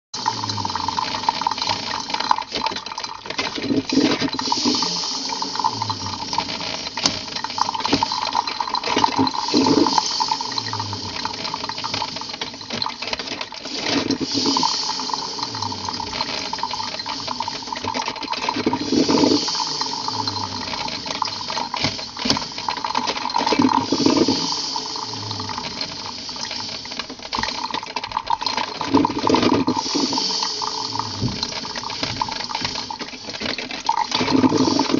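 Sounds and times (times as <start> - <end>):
cups and metal clinking: 0.2 - 34.9
running liquid: 0.2 - 34.9
steam hissing: 0.2 - 34.9.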